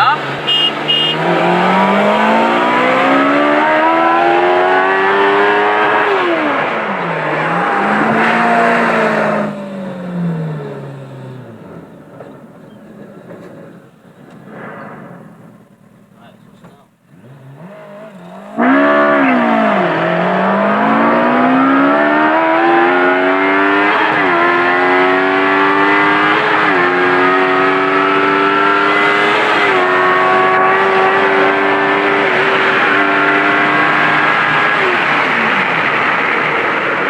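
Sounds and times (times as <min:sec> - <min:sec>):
engine revving at full throttle: 0:00.0 - 0:12.5, 0:17.0 - 0:37.0.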